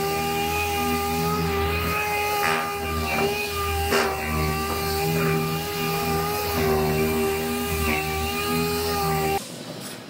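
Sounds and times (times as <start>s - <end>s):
sander whining on metal: 0.0s - 9.4s.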